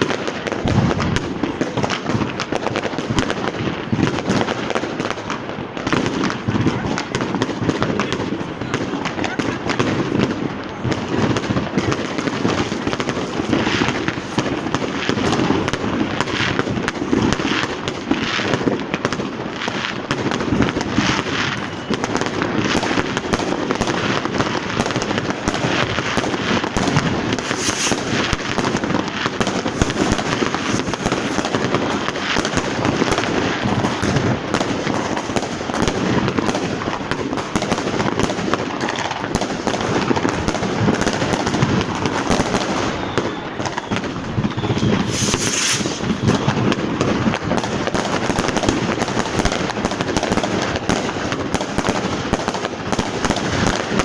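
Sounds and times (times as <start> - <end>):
firecrackers crackling and banging: 0.0 - 54.0.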